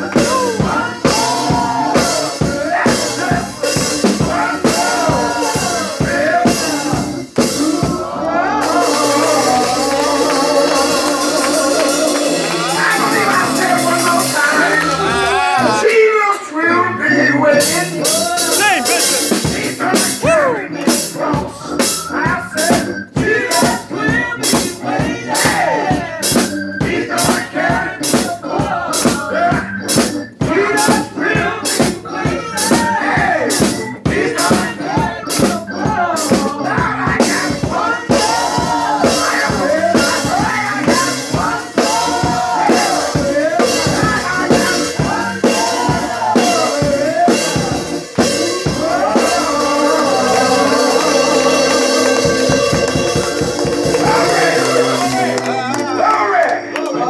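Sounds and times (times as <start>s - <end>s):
steady drum beat: 0.0s - 16.0s, 17.5s - 56.2s.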